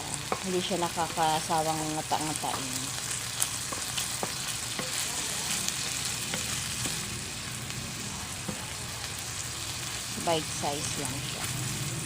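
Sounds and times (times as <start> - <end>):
utensil stirring against pan: 0.0 - 10.2
food sizzling in a frying pan: 0.0 - 12.0.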